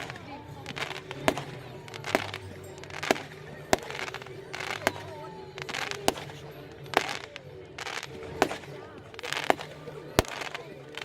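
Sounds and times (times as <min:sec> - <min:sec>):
firework rushing hiss: 0:00.0 - 0:11.0
fireworks banging: 0:00.0 - 0:11.0.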